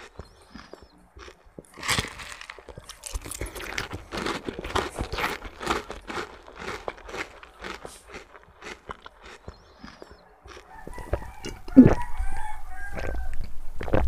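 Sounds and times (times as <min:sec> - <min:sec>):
wet crunchy chewing: 0:00.0 - 0:14.0.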